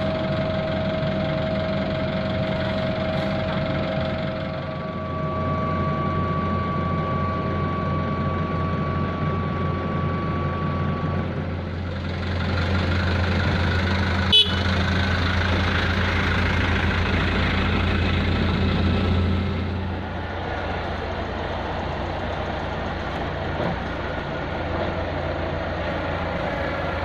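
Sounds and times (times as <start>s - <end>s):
heavy machinery engine running: 0.0s - 27.0s
steady whine: 0.0s - 27.0s.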